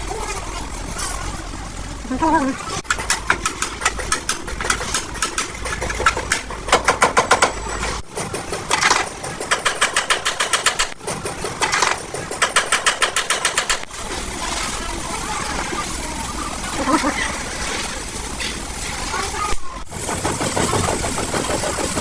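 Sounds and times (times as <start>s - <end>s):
rapid mechanical tapping on metal: 2.7s - 22.0s.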